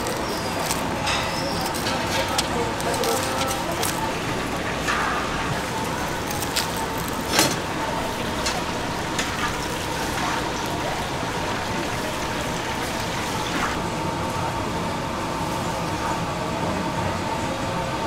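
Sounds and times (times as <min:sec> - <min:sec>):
steady hissing noise: 0:00.0 - 0:16.2.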